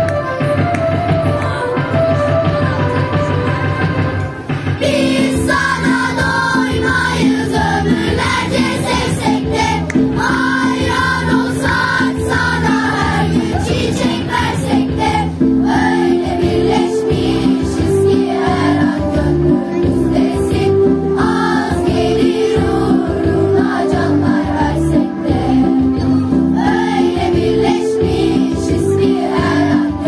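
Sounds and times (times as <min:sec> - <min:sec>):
instrumental accompaniment with bass: 0:00.0 - 0:30.0
children's choir singing: 0:04.8 - 0:30.0.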